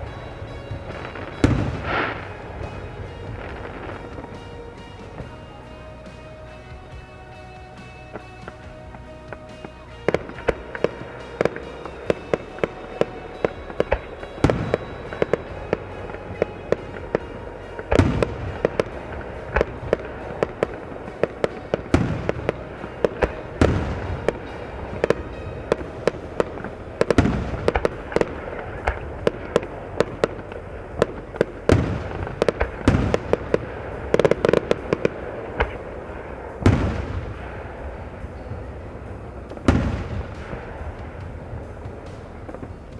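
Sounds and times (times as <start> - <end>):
firework shell booms: 0.0 - 42.9
fireworks cracking: 0.0 - 42.9.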